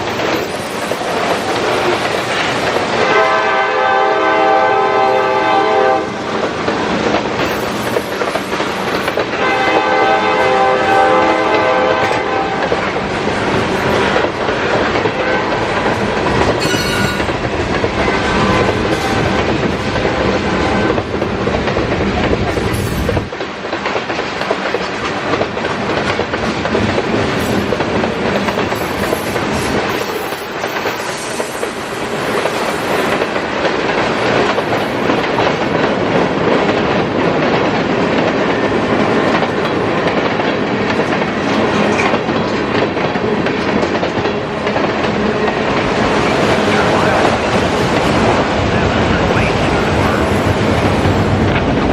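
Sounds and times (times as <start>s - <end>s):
freight train rumbling past: 0.0s - 51.9s
steel wheels clattering over rail joints: 0.0s - 51.9s.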